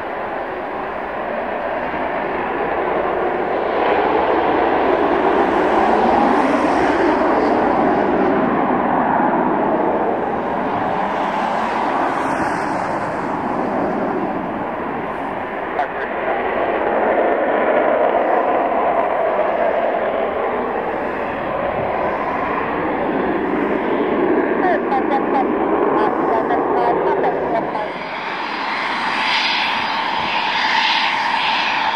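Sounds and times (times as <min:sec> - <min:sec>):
loud jet engine roar: 0:00.0 - 0:31.9.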